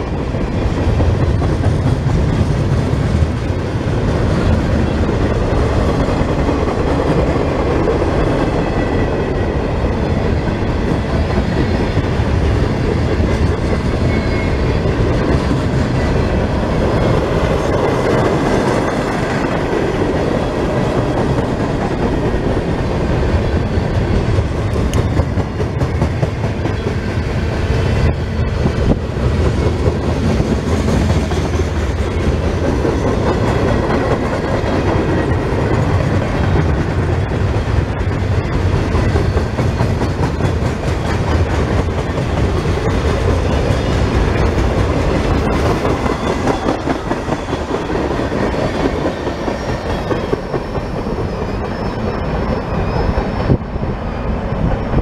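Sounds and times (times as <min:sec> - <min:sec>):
freight train wheels rumbling on rails: 0:00.0 - 0:55.0
sharp clicks of train wheels: 0:00.0 - 0:55.0.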